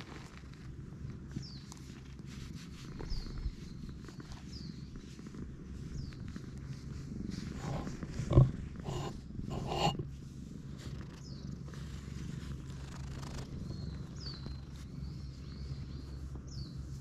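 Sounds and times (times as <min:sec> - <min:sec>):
cat purring: 0:00.0 - 0:17.0
hand rustling fur: 0:00.0 - 0:17.0.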